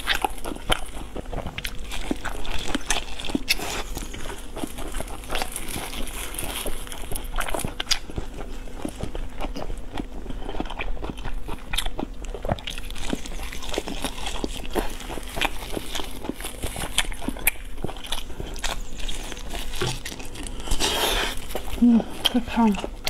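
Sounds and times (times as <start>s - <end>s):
chewing and biting meat: 0.0s - 23.0s.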